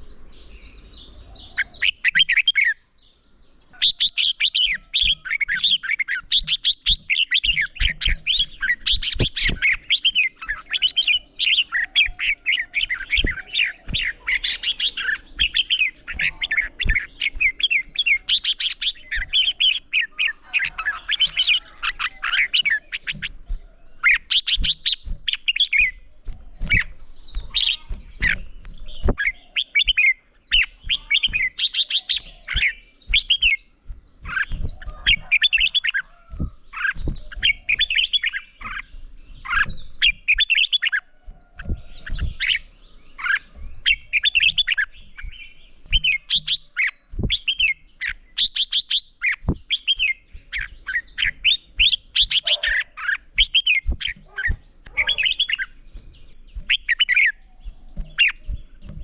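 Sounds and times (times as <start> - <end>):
bird singing warbling phrases: 0.0 - 59.0.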